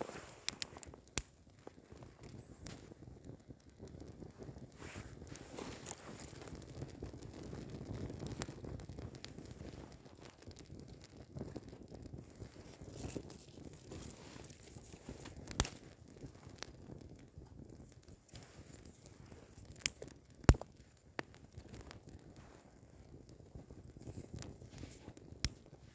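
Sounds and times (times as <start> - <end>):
campfire crackling: 0.0 - 25.9
sharp pops from fire: 0.0 - 25.9.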